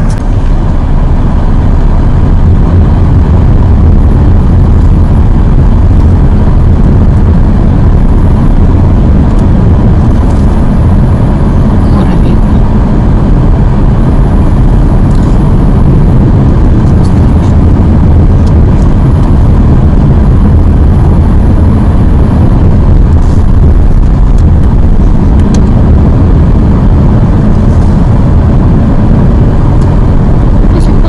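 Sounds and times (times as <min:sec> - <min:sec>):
car cabin road and engine rumble: 0:00.0 - 0:31.0.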